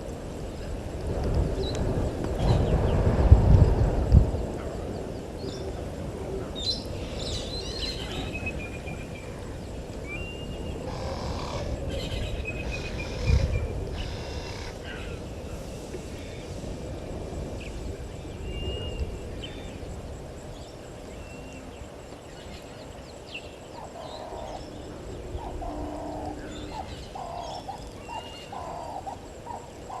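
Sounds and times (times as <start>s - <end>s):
low background noise: 0.0s - 30.0s
wild birds chirping: 0.0s - 30.0s.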